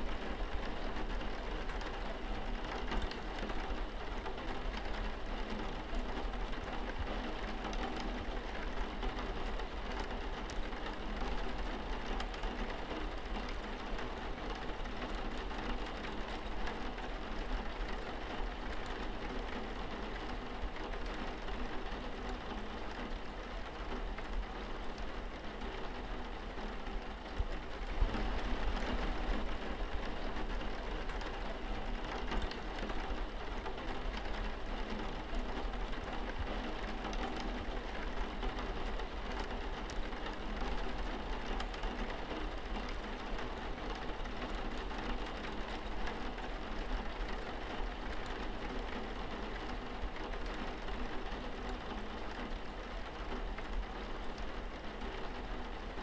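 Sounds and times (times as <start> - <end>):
rain on window glass: 0.0 - 56.0.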